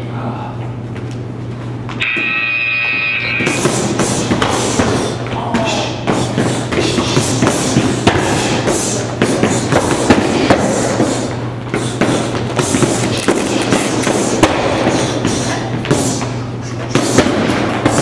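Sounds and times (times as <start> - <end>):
low hum: 0.0 - 18.0
punches and kicks on punching bags: 3.4 - 18.0.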